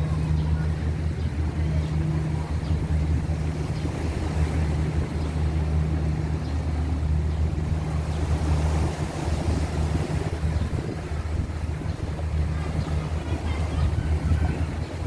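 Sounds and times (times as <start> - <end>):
boat engine drone: 0.0 - 15.0
wind and water hiss: 0.0 - 15.0.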